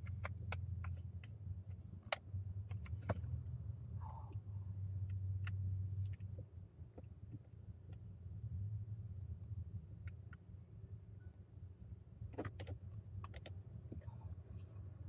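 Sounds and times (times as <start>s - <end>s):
car engine hum from inside cabin: 0.0s - 15.0s.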